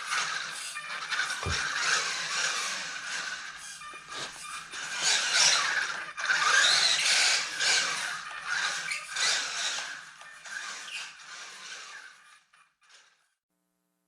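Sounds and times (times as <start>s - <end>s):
rc truck motor whining: 0.0s - 13.4s.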